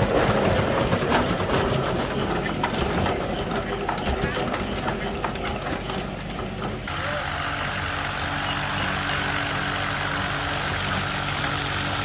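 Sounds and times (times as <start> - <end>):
diesel engine idling: 2.1 - 12.0.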